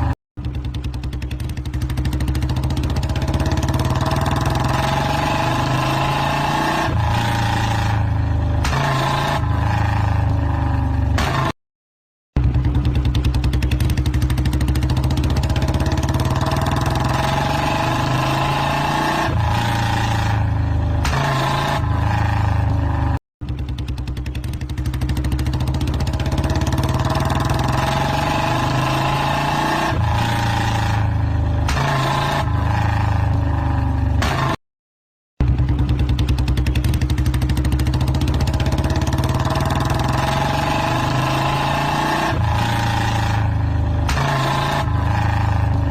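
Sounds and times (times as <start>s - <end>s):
motorcycle engine running: 0.0s - 11.5s, 12.4s - 34.5s, 35.4s - 45.9s.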